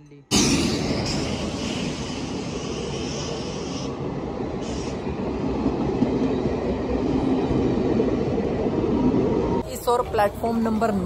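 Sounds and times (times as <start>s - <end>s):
train coaches rumbling: 0.3s - 11.0s.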